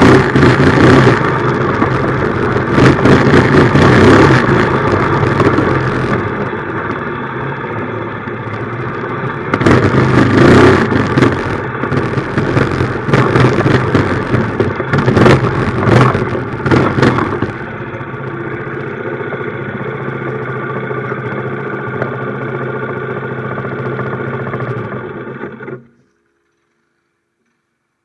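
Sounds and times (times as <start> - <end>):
minibike engine running: 0.0 - 26.8.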